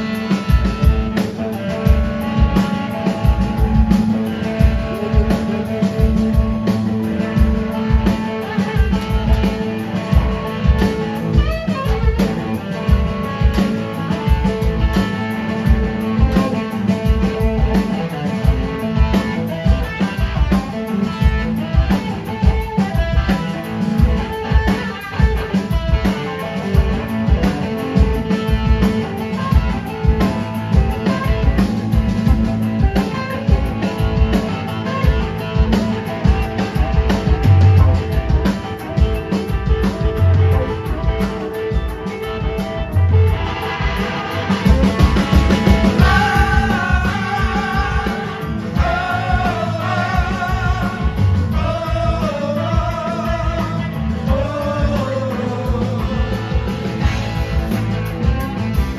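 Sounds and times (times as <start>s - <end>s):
blues-rock band playing: 0.0s - 58.9s.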